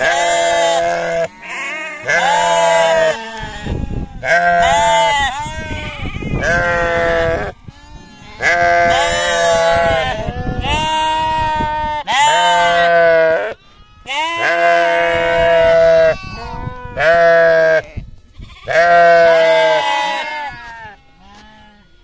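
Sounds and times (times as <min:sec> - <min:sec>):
sheep bleating: 0:00.0 - 0:22.0.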